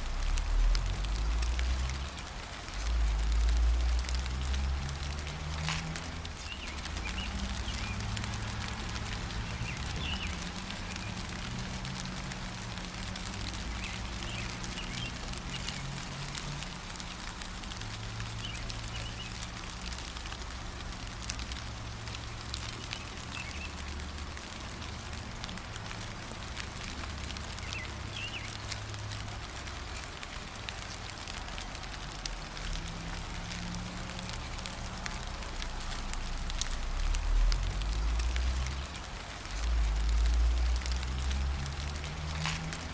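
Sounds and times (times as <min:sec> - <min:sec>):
rain pattering: 0:00.0 - 0:42.9.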